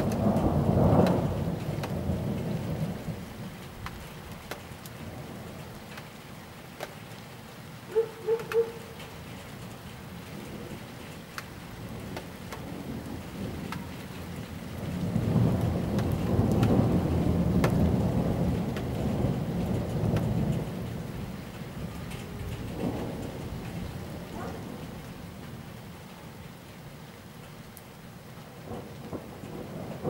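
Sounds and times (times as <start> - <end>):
thunder rumbling: 0.0 - 6.0, 7.9 - 25.8, 28.5 - 30.0
raindrops ticking close by: 0.0 - 30.0
steady rain: 0.0 - 30.0.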